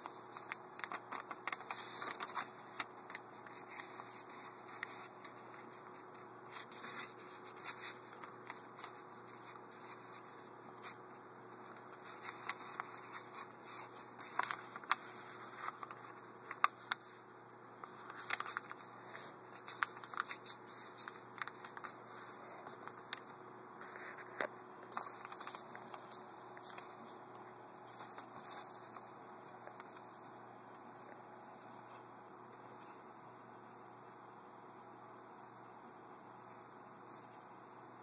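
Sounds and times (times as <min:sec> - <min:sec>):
paper rustling and crackling: 0:00.0 - 0:17.2, 0:17.8 - 0:27.2, 0:27.8 - 0:33.0
faint steady hum: 0:00.0 - 0:38.0.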